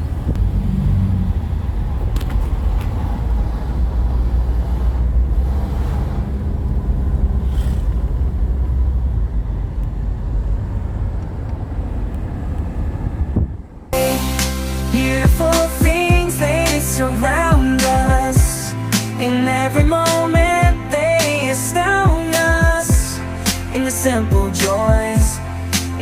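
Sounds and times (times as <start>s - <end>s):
road and wind noise: 0.0s - 26.0s
vehicle engine rumble: 0.0s - 26.0s.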